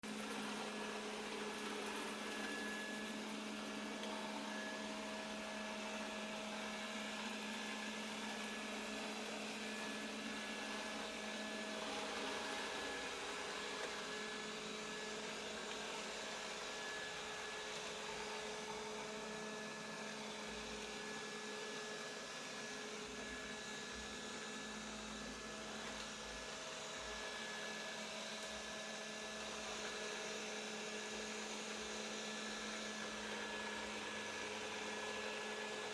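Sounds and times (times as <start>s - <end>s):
robot vacuum cleaner running: 0.1s - 35.9s.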